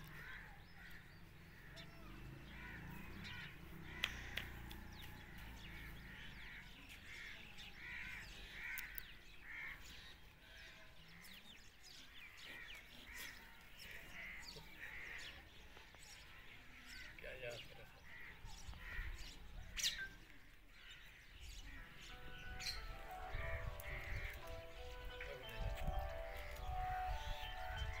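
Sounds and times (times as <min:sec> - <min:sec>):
birds calling faintly: 0:00.0 - 0:28.0.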